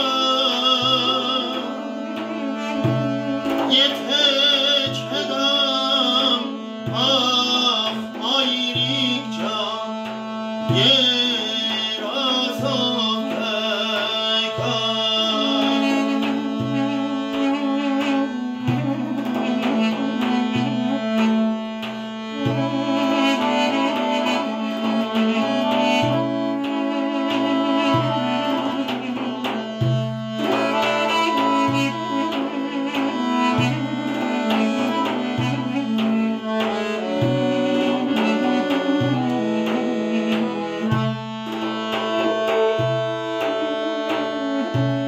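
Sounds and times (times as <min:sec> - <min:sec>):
accordion drone and bass notes: 0:00.0 - 0:45.0
wooden woodwind melody: 0:00.0 - 0:45.0.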